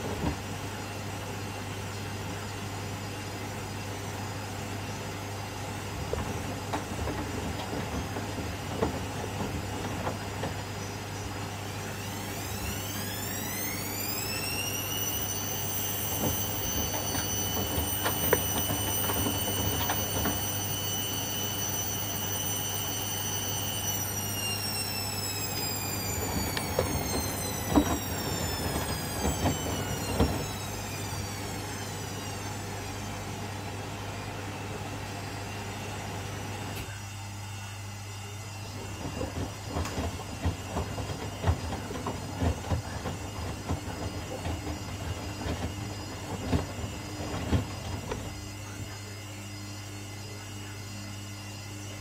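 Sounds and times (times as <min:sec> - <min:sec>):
steady low hum: 0:00.0 - 0:52.0
washing machine motor whining: 0:00.0 - 0:52.0.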